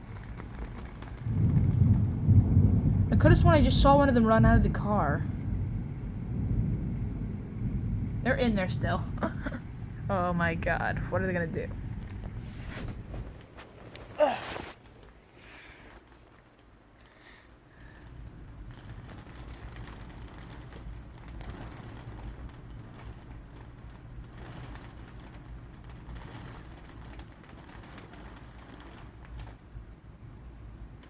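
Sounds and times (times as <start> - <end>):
storm wind rumble: 0.0 - 15.2, 15.8 - 31.0
raindrops ticking on a surface: 0.0 - 31.0.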